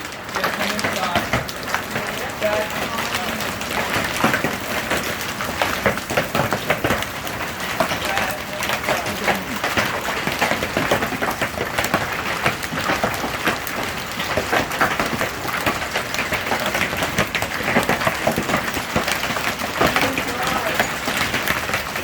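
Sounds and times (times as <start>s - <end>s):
hail clattering on hard surfaces: 0.0s - 22.0s.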